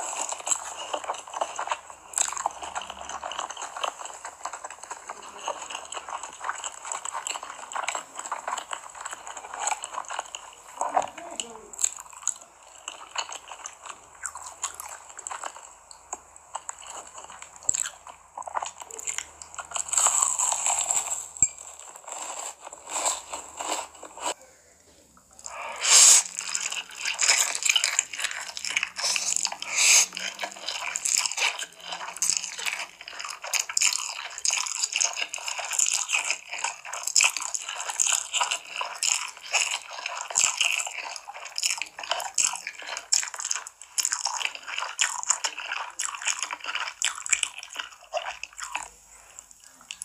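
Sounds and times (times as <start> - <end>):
slurping and chewing noodles: 0.0 - 24.4, 25.3 - 50.0.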